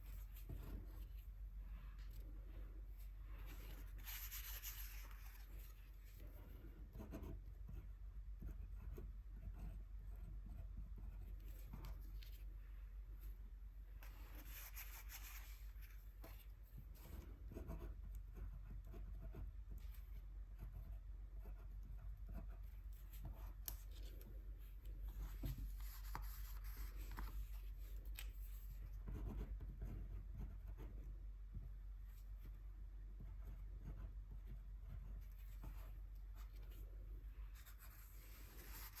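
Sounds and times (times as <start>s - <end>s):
rubbing and scratching on paper: 0.0s - 12.6s, 14.0s - 39.0s.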